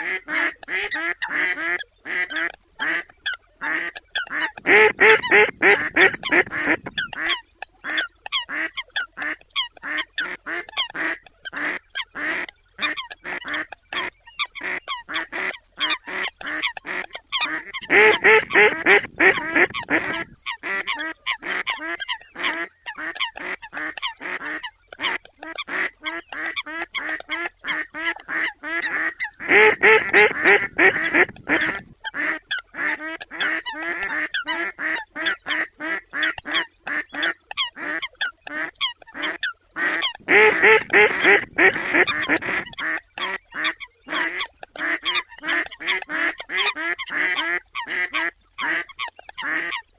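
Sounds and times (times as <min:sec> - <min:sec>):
ducks quacking and calling: 0:00.0 - 0:49.9.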